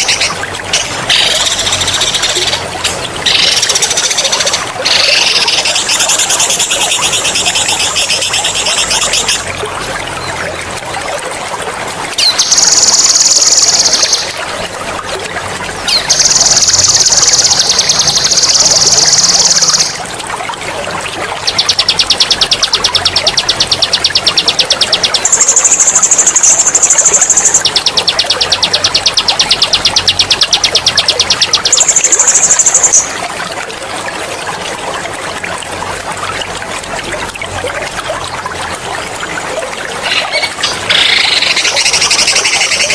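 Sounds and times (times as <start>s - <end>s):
running water trickling: 0.0s - 42.9s.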